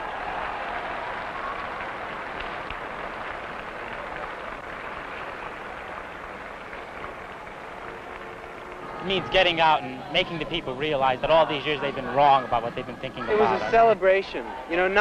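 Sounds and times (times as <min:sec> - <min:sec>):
large crowd applauding: 0:00.0 - 0:15.0.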